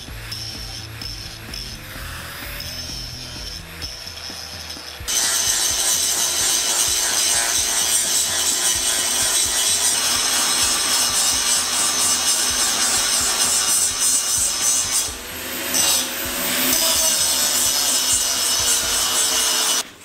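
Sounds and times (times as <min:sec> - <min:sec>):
angle grinder grinding steel: 0:00.0 - 0:20.0.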